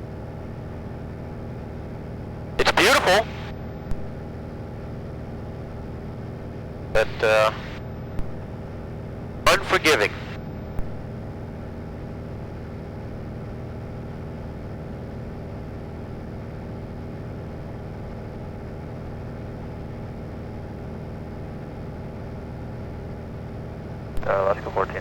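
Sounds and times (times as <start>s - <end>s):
small airplane engine drone: 0.0s - 25.0s.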